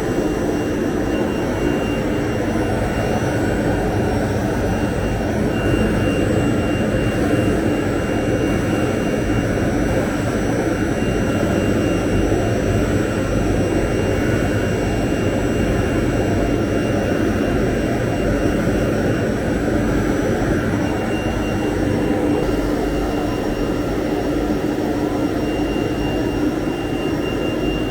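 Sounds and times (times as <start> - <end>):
cnc router running: 0.0 - 27.9.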